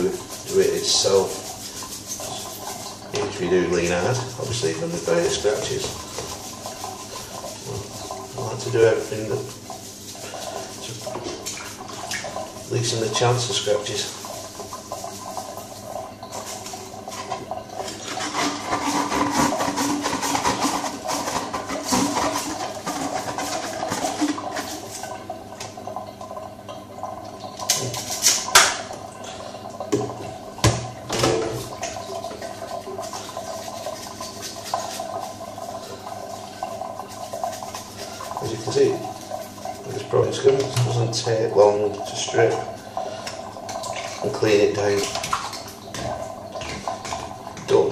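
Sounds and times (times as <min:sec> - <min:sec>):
tap water splashing into sink: 0:00.0 - 0:47.9.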